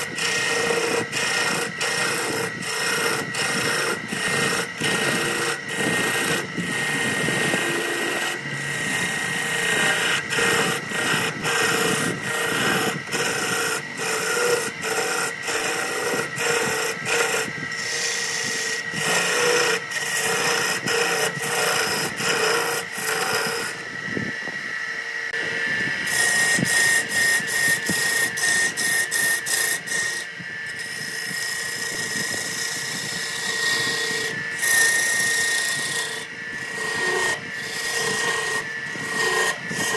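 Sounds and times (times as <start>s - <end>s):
turning tool cutting spinning wood: 0.0s - 39.9s
wood lathe whine: 0.0s - 39.9s.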